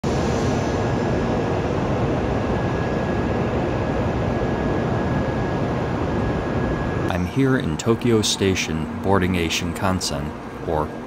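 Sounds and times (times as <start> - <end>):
train steady low noise: 0.0 - 11.0
faint high whine: 0.1 - 11.0.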